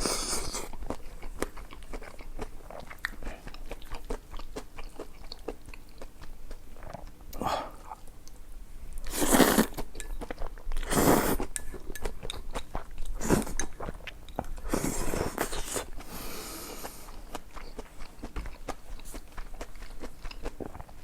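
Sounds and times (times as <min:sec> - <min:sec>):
crunching and chewing: 0:00.0 - 0:07.2, 0:09.0 - 0:21.0.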